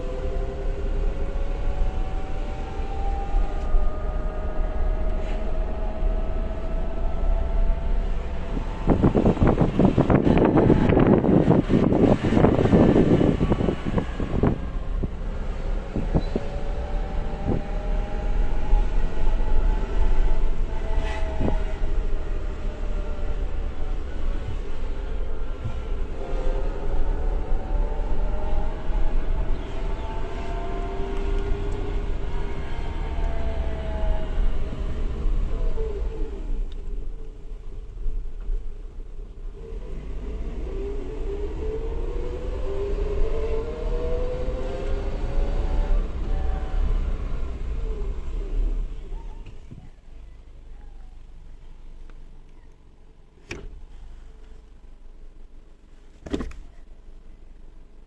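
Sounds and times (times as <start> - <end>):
transmission whining: 0.0 - 51.8
low rumble: 0.0 - 55.9.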